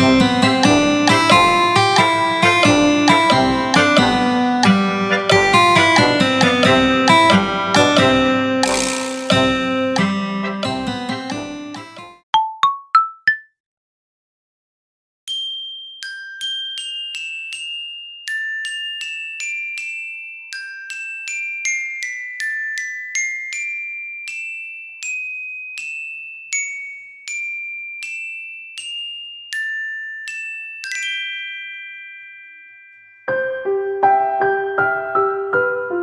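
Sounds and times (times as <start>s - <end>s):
bell-like music-box melody: 0.0s - 13.4s, 15.3s - 34.4s.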